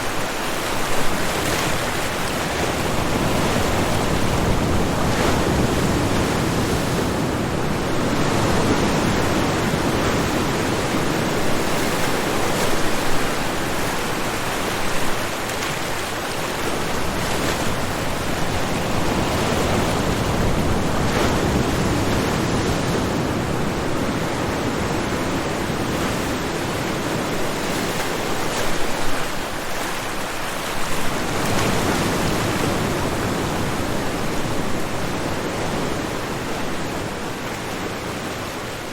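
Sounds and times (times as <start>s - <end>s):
ocean waves washing ashore: 0.0s - 38.9s.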